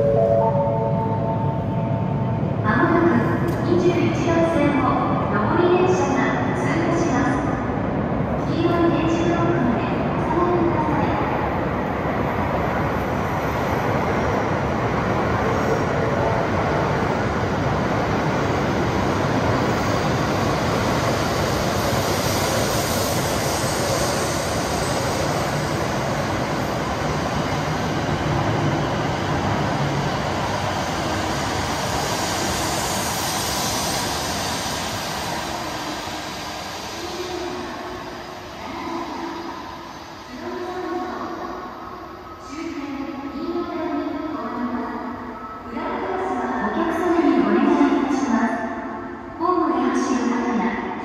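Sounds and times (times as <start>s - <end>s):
train rumbling through station: 0.0s - 51.0s.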